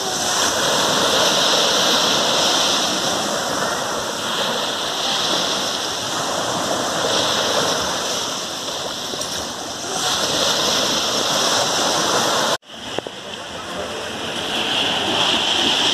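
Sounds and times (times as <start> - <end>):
waves breaking on a beach: 0.0 - 15.9.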